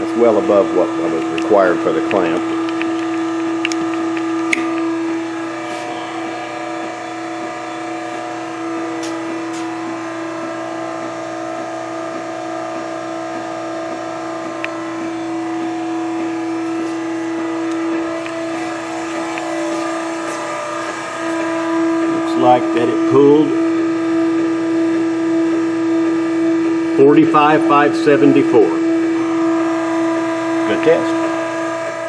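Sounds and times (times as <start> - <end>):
motor humming: 0.0 - 32.0.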